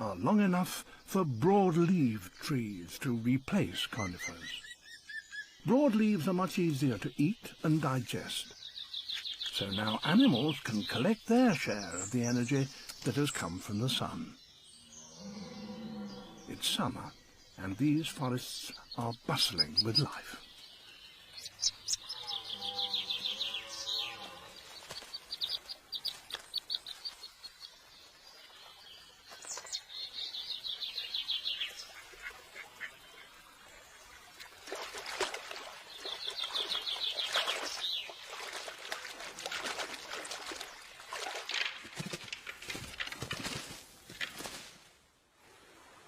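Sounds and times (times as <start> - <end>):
songbirds trilling: 0.0 - 43.1.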